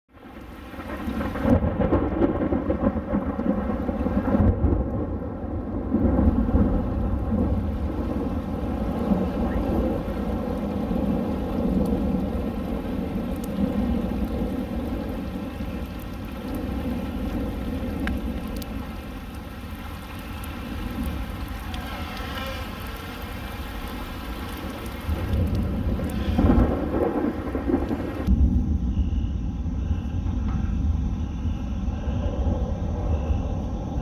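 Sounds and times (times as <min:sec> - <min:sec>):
steady rain: 0:00.1 - 0:28.8
thunder rumbling: 0:00.2 - 0:34.0.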